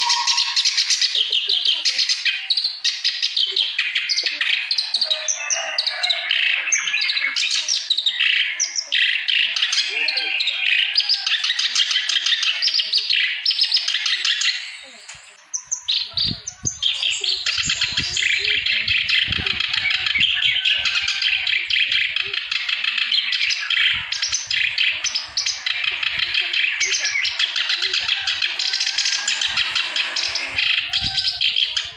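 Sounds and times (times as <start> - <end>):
reed warbler chattering song: 0.0 - 31.9.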